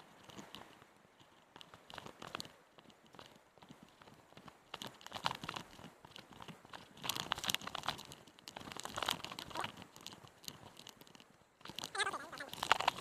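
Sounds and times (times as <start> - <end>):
crunching and scraping: 0.0 - 13.0.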